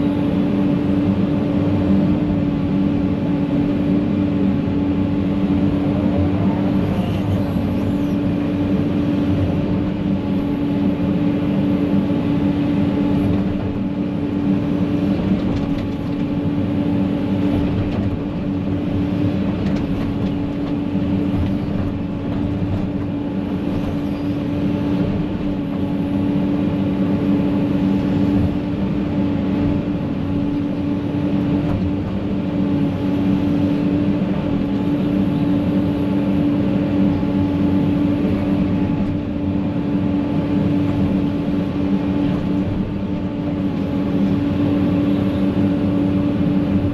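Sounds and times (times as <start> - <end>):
heavy equipment engine running: 0.0 - 46.9.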